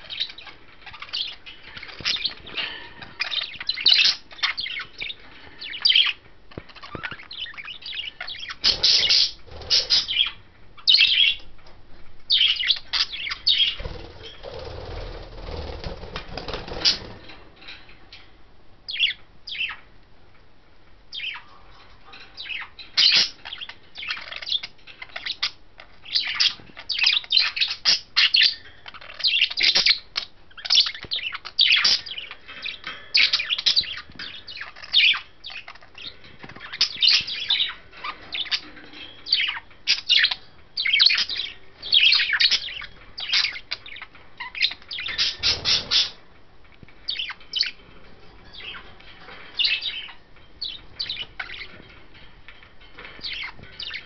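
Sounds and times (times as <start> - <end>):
budgerigars chirping: 0.0 - 11.5, 12.3 - 17.2, 18.9 - 19.8, 21.1 - 21.5, 22.3 - 46.2, 47.1 - 47.8, 48.4 - 52.2, 53.0 - 54.0.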